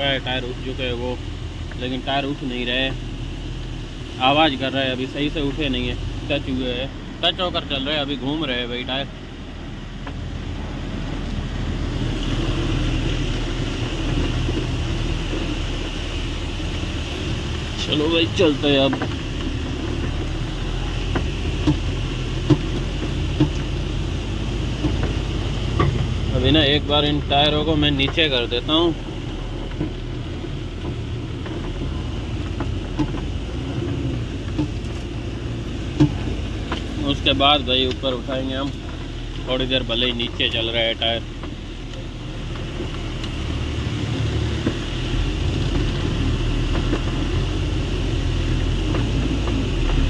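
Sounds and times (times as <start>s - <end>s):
diesel truck low rumble: 0.0s - 50.0s.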